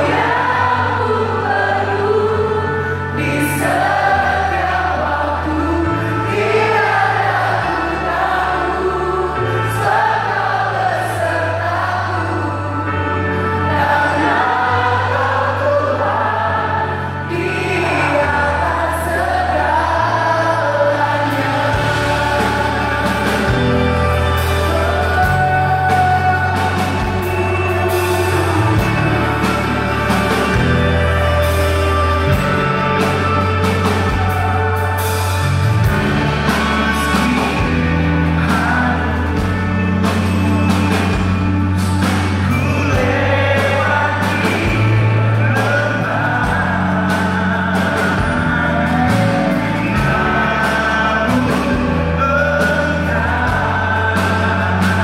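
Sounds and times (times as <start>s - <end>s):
live worship band playing: 0.0s - 55.0s
people singing: 0.0s - 55.0s
sustained bass notes: 0.0s - 55.0s.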